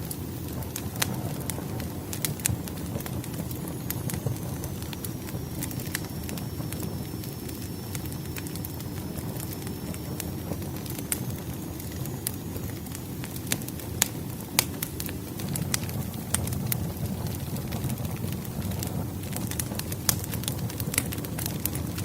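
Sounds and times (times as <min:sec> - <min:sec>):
campfire flames rumbling: 0:00.0 - 0:22.0
fire crackling and popping: 0:00.0 - 0:22.0.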